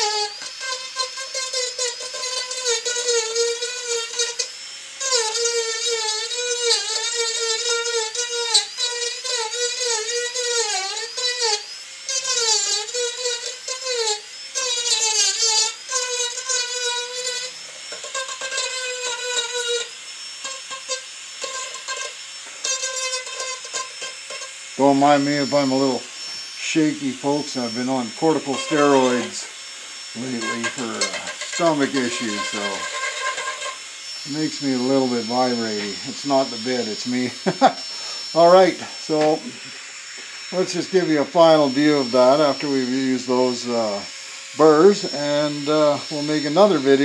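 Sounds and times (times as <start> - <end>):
rotary tool whining on wood: 0.0 - 47.0.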